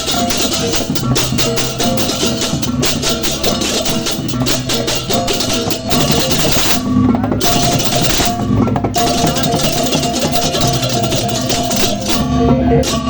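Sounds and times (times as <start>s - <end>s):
cymbals clashing: 0.0s - 13.0s
drums: 0.0s - 13.0s.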